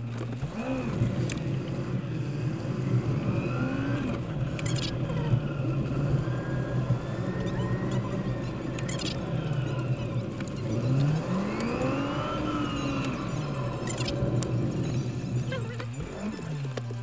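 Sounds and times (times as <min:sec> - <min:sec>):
road noise: 0:00.0 - 0:17.0
sped up car engine: 0:00.0 - 0:17.0.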